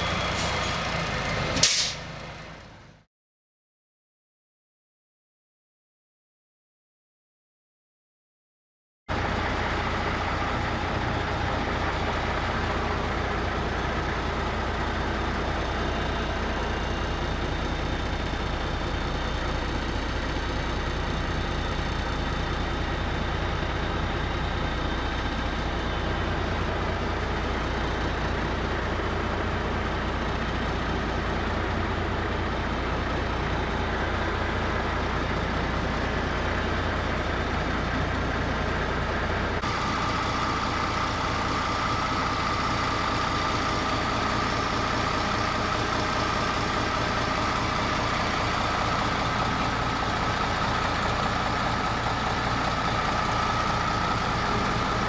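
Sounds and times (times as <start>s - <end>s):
fire engine idling: 9.1s - 55.0s.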